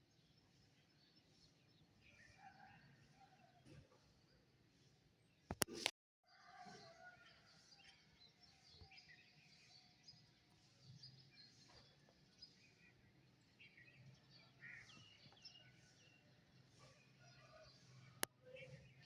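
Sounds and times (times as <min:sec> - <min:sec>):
songbirds chirping: 0:00.0 - 0:05.7, 0:06.8 - 0:19.0.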